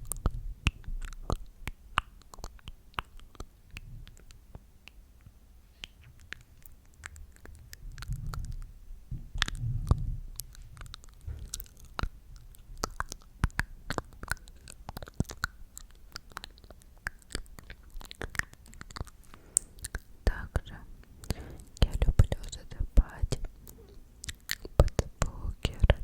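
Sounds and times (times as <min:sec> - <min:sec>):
wet mouth clicks and smacks: 0:00.0 - 0:08.7, 0:09.3 - 0:26.0.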